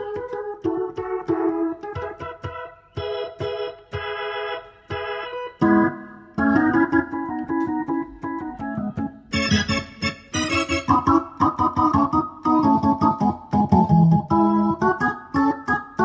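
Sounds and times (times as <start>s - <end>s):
electronic keyboard playing chords: 0.0s - 16.0s.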